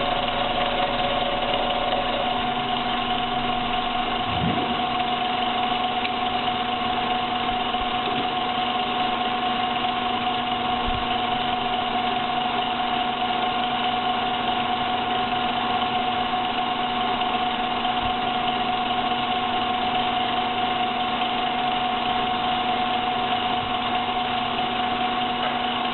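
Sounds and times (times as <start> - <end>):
milling machine running: 0.0 - 25.9.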